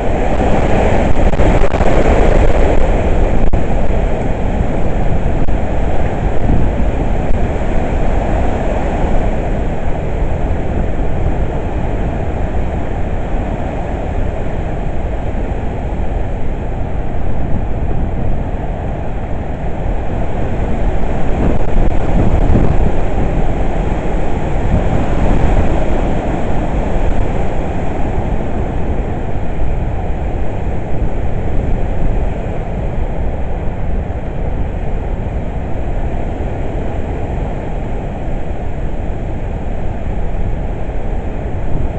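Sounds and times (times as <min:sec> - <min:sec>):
hurricane wind gusts: 0:00.0 - 0:41.9
wind rumble on microphone: 0:00.0 - 0:41.9.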